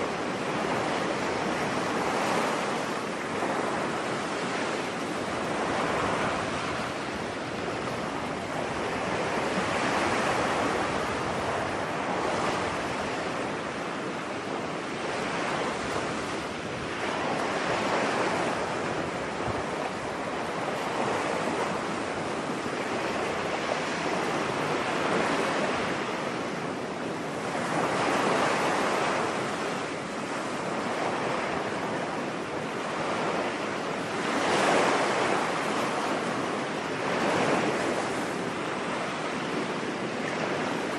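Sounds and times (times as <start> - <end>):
ocean waves washing onto beach: 0.0 - 40.9.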